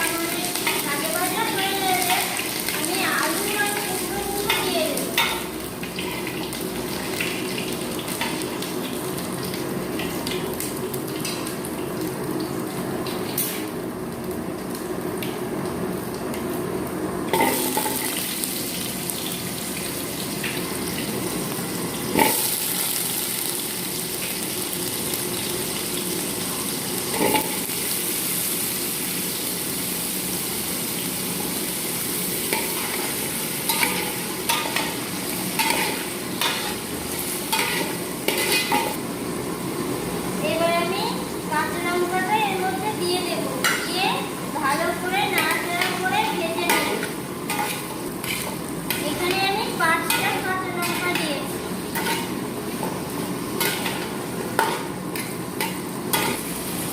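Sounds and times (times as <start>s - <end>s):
food sizzling in hot oil: 0.0s - 56.9s.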